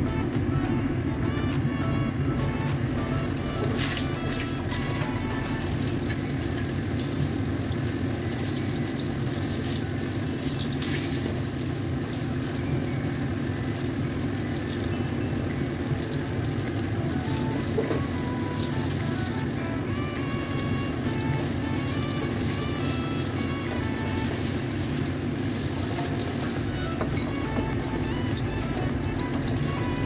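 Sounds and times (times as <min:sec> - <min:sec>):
meat sizzling in hot oil: 0:02.4 - 0:30.0.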